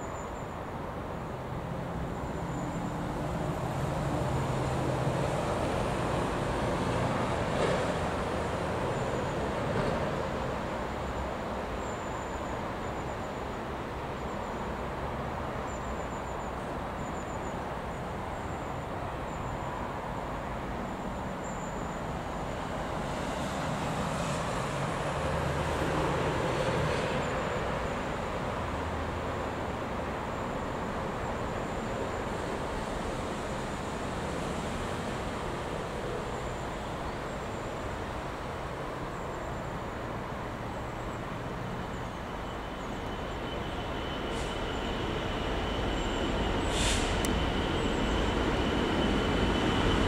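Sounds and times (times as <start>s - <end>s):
diesel locomotive engine: 0.0s - 50.0s
wheel and rail rumble: 0.0s - 50.0s.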